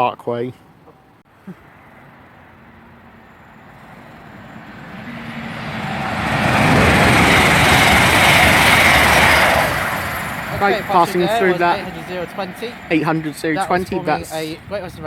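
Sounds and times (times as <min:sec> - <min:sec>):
express train passing: 0:01.7 - 0:15.0.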